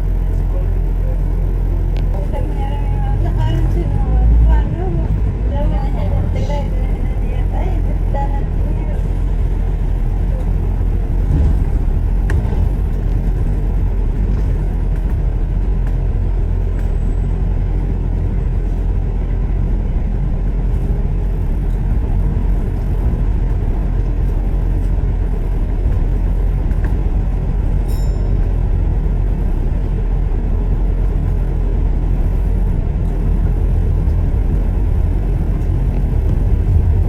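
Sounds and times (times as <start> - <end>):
vehicle driving in city traffic: 0.0 - 37.0.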